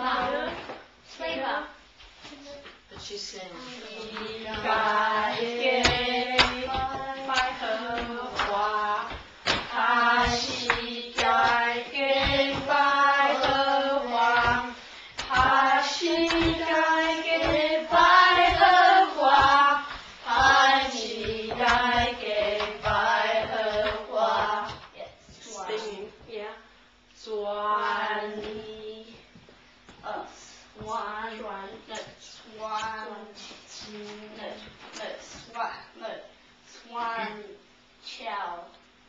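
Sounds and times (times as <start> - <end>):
children and woman singing: 0.0 - 1.7, 2.9 - 26.6, 27.2 - 29.4, 30.0 - 35.6.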